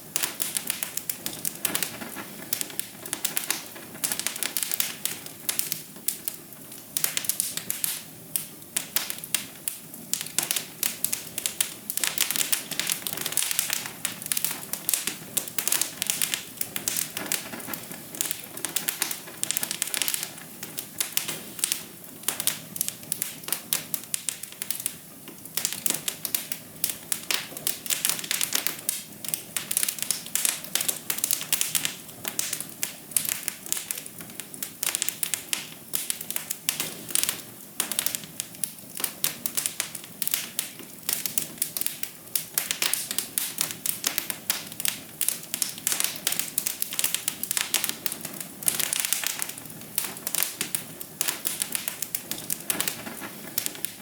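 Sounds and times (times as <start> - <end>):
fire crackling with pops: 0.0 - 54.0.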